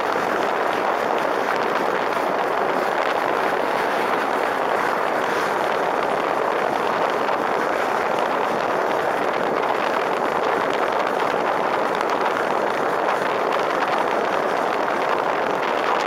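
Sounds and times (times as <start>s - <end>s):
car road noise: 0.0s - 16.0s
wind rushing over microphone: 0.0s - 16.0s.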